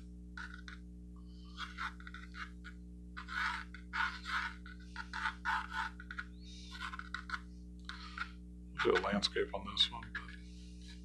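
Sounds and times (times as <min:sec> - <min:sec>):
low electrical hum: 0:00.0 - 0:11.0
pencil scratching on canvas: 0:00.4 - 0:00.8, 0:01.5 - 0:09.3, 0:10.0 - 0:11.0.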